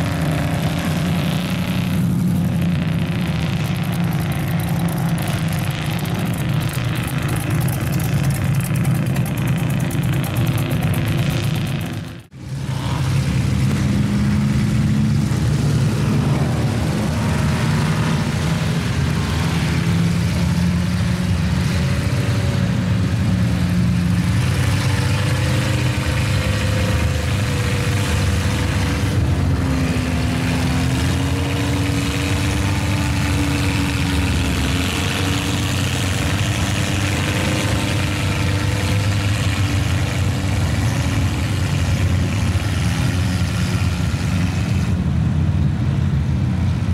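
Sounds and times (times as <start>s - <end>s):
truck engine running: 0.0s - 46.9s.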